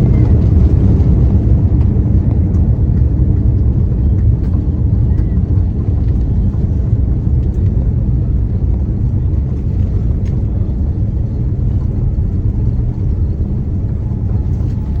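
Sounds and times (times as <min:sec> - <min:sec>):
airliner rolling on runway rumble: 0:00.0 - 0:15.0.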